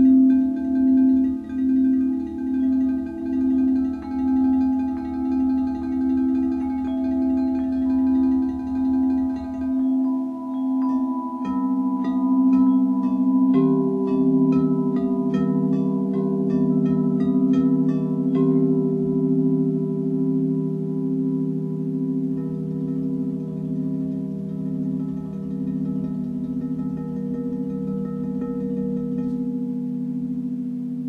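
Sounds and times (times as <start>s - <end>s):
singing bowls struck with mallet: 0.0s - 31.0s.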